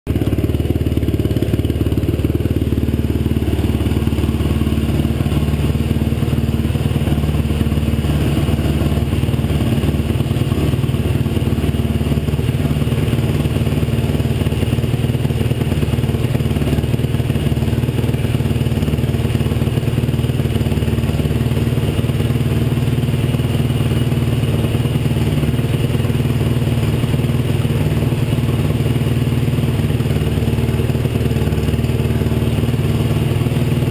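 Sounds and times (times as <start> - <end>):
quad engine idling: 0.1 - 33.9.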